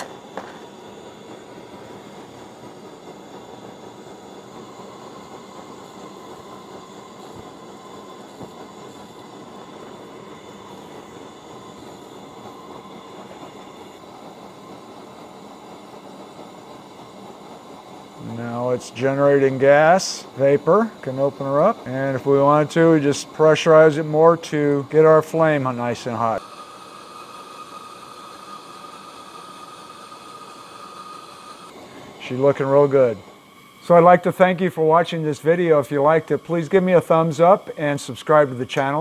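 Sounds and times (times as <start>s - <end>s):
camp stove burner hissing: 0.0s - 39.0s.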